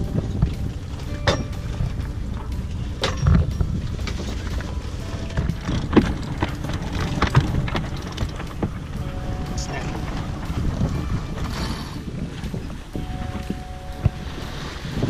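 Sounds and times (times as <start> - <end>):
wind and water rumbling on microphone: 0.0 - 15.0.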